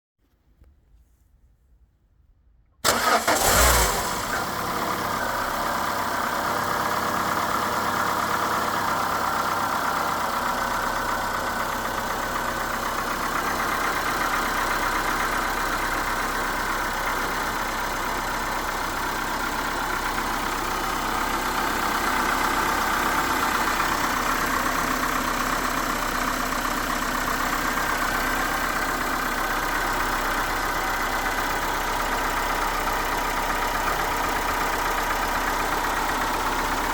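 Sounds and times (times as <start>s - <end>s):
car engine starting and idling: 2.8s - 36.9s.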